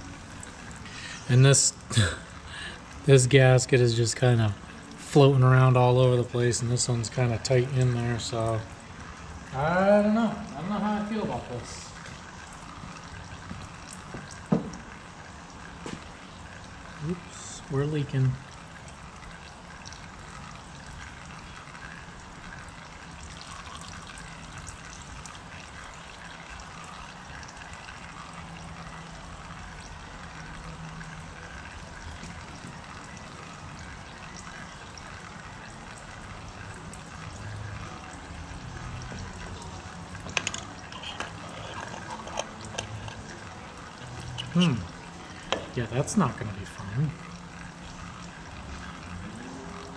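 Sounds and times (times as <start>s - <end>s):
oil trickling and dribbling: 0.0s - 49.9s.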